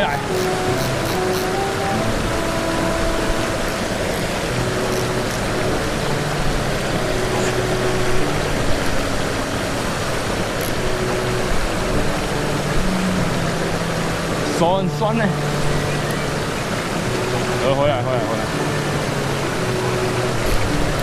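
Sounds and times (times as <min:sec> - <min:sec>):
water rushing over weir: 0:00.0 - 0:21.0.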